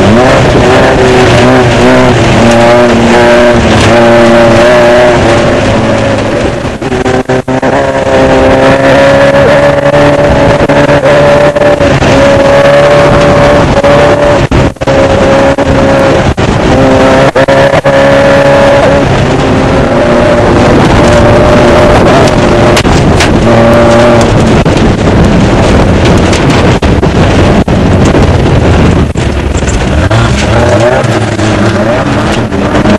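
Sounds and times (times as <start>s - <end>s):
race car engine running hard: 0.0s - 32.9s.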